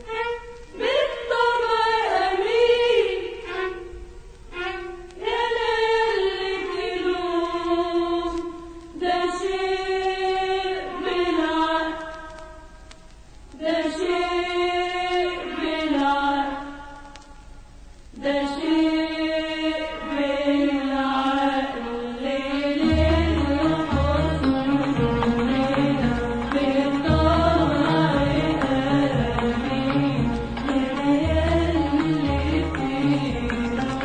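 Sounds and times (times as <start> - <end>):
choir singing: 0.7 - 3.9, 5.2 - 8.4, 9.0 - 12.1, 13.6 - 16.7, 18.2 - 34.0.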